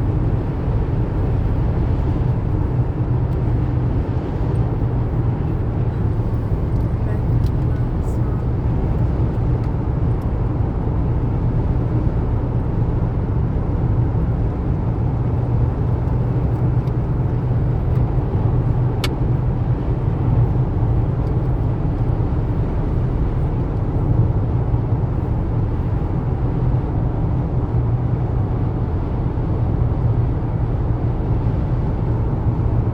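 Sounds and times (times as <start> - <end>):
car interior driving rumble: 0.0 - 32.9.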